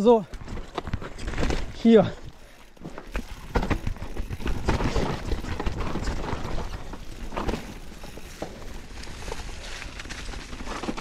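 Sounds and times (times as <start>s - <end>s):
bike tyres rolling over dirt: 0.0s - 11.0s
bike knocking and rattling: 0.1s - 11.0s.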